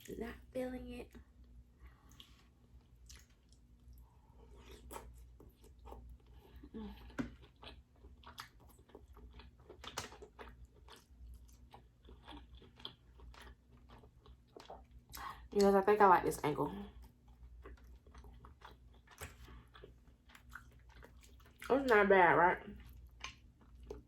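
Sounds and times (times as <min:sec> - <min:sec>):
close-up chewing: 0:01.9 - 0:15.7, 0:16.9 - 0:22.0, 0:22.7 - 0:24.0.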